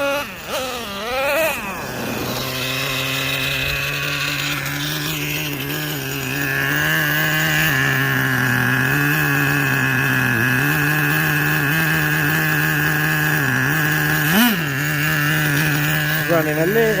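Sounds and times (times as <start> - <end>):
small nitro engine idling: 0.0 - 17.0.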